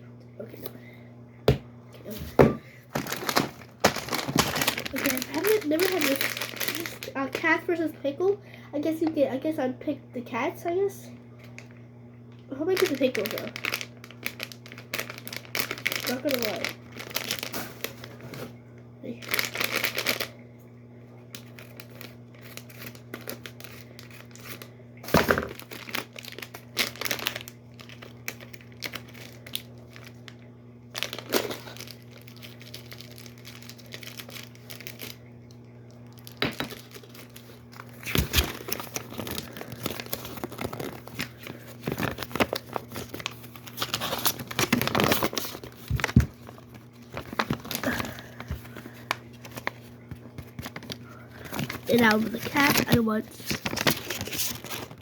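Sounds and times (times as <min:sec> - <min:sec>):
plastic packaging crinkling and tearing: 0:02.8 - 0:07.6, 0:12.5 - 0:20.4, 0:21.3 - 0:55.0.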